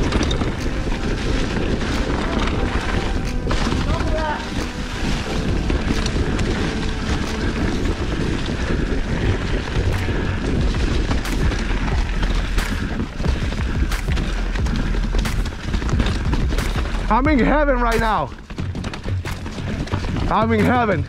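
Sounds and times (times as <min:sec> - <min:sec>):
low rumble: 0:00.0 - 0:19.7
bike knocking over roots: 0:00.0 - 0:21.0
bike tyres rushing through leaves: 0:00.0 - 0:21.0.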